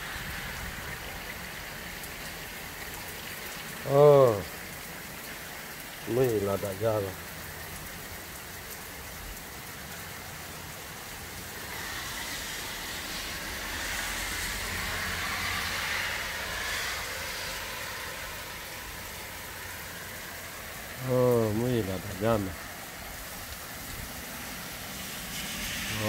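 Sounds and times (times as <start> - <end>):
car tyres hissing on wet road: 0.0 - 26.0
heavy rain falling: 0.0 - 26.0.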